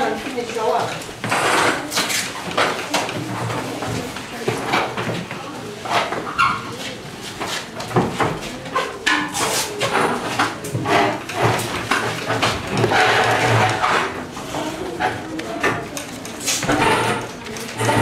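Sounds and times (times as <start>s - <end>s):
children's voices: 0.0s - 18.0s
wooden knocks of desks and chairs: 0.0s - 18.0s.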